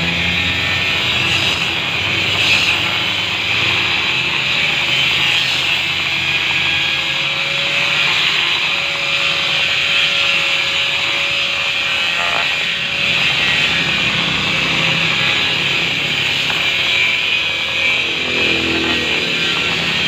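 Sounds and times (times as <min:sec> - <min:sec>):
power grinder on stone: 0:00.0 - 0:20.0.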